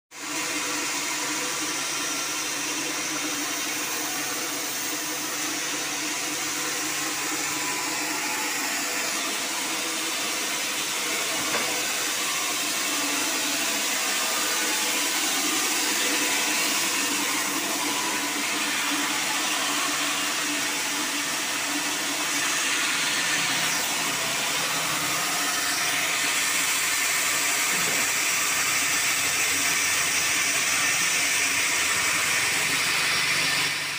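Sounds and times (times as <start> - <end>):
steady machine hiss: 0.2 - 33.9.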